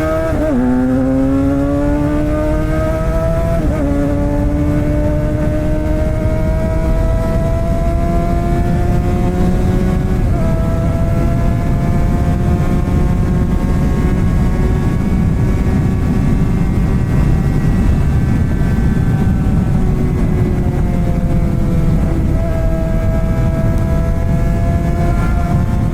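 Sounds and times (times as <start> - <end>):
motorcycle engine cruising: 0.0 - 25.9
wind rumble on microphone: 0.0 - 25.9.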